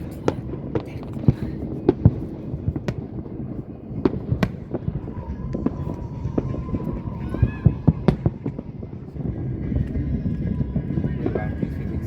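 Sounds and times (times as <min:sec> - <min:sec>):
fireworks bangs: 0:00.0 - 0:12.0
low rumble of bursts: 0:00.0 - 0:12.0.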